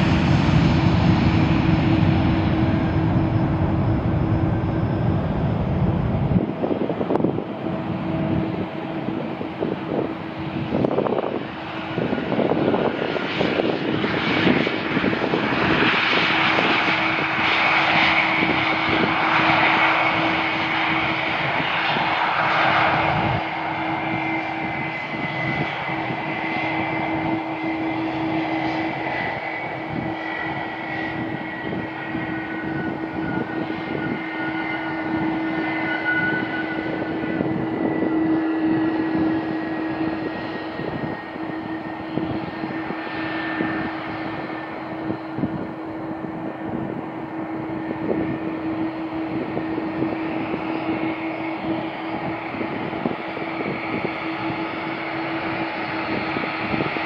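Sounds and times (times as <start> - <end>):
high engine whine: 0.0 - 57.0
jet airliner engines: 0.0 - 57.0.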